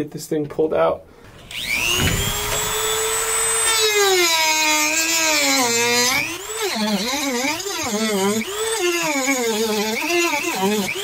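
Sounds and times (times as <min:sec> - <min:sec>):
rotary tool whining: 0:01.3 - 0:11.0.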